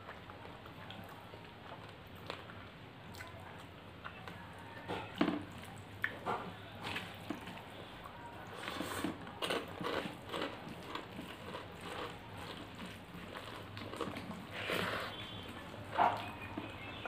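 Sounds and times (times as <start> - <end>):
wet chewing: 0.0 - 17.0.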